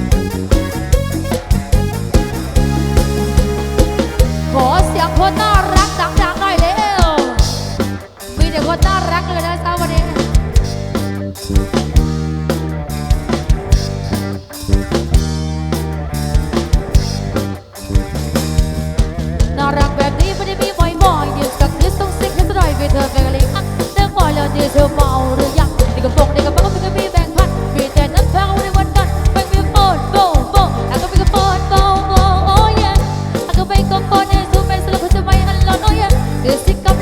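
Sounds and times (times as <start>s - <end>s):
bass and chords: 0.0s - 37.0s
drum kit beat: 0.0s - 37.0s
sliding lead melody: 0.0s - 37.0s.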